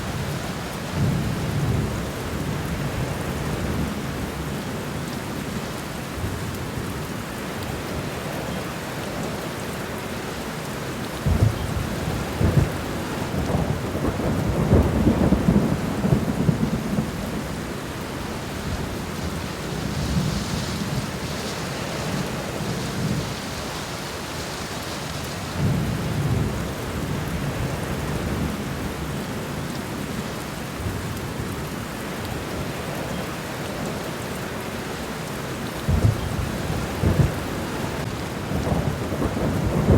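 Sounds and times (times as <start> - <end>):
rain falling on ground: 0.0 - 39.9.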